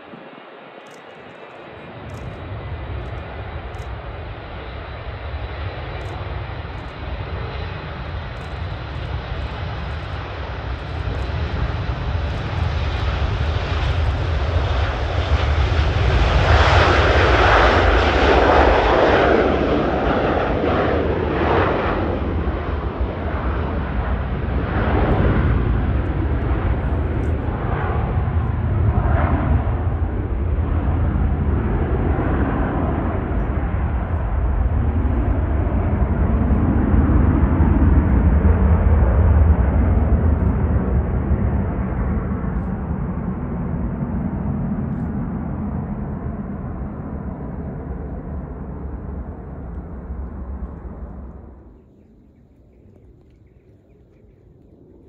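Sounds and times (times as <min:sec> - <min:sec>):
jet engines roaring at takeoff: 0:00.0 - 0:55.0.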